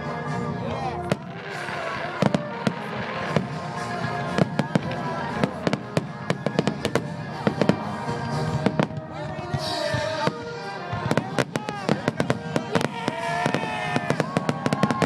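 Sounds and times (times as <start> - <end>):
fireworks bangs and crackles: 0.8 - 15.0.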